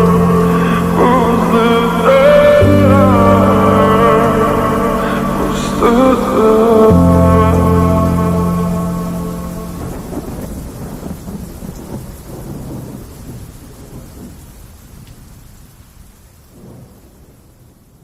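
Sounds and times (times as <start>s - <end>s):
rumbling thunder: 0.0s - 14.6s, 16.5s - 18.0s
rain: 0.0s - 18.0s.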